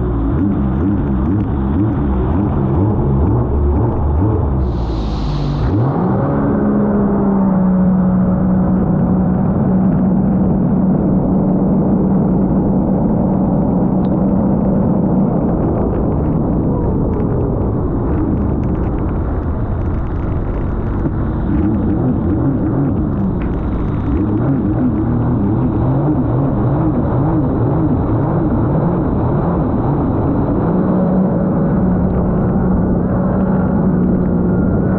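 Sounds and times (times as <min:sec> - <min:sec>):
personal watercraft engine running: 0:00.0 - 0:34.9.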